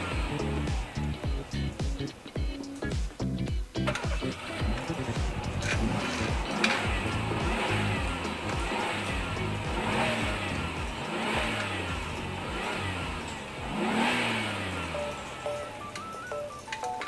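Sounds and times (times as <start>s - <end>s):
bright stepping melody: 0.0s - 13.4s, 14.6s - 17.0s
car engine revving: 0.0s - 16.8s
background music with steady beat: 0.0s - 17.0s.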